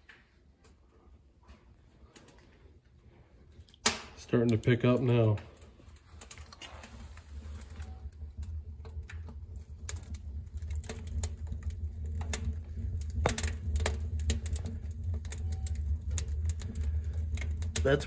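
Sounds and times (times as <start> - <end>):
wood fire crackling and popping: 0.0 - 18.0
low steady rumble: 0.8 - 18.0.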